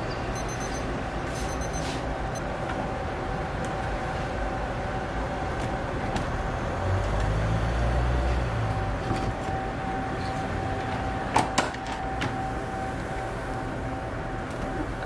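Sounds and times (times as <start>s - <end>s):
constant whine: 0.0s - 15.0s
steady hum: 0.0s - 15.0s.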